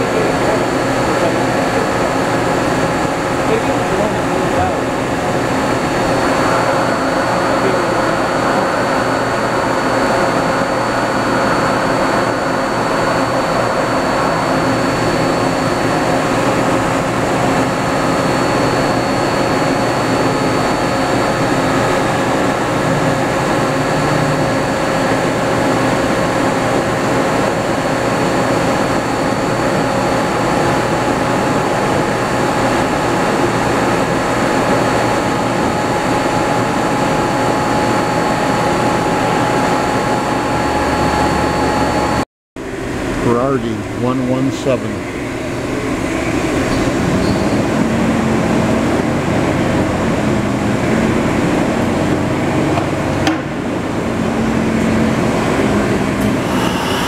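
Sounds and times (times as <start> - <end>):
high machine whine: 0.0 - 57.0
machine mechanical hum: 0.0 - 57.0.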